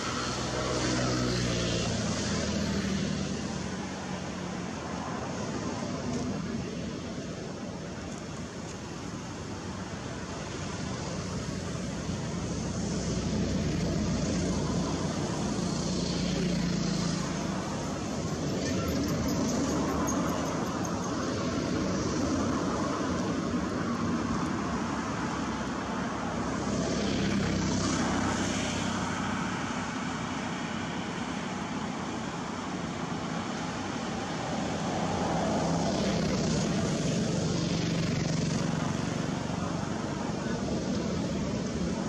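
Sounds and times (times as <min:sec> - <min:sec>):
traffic engine rumble: 0:00.0 - 0:42.0.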